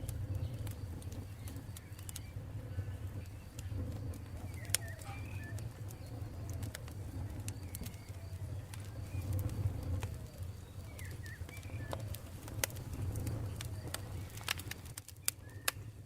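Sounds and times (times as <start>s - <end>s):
birds chirping: 0.0s - 16.0s
campfire crackling and popping: 0.0s - 16.0s
low steady rumble: 0.0s - 16.0s.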